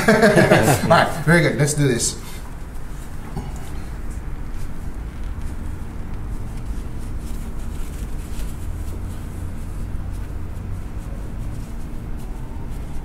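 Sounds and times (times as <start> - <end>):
paper towel rustling: 0.0 - 13.0
low machinery rumble: 2.4 - 13.0.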